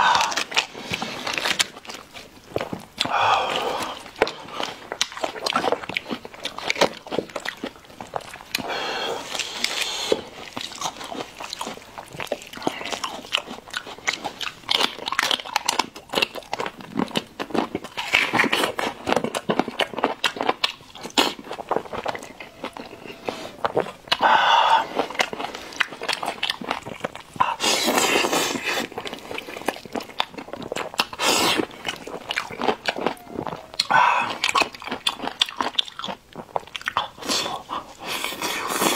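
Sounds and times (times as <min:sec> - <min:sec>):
chewing and biting meat: 0:00.0 - 0:38.9
wet mouth sounds and crunches: 0:00.0 - 0:38.9.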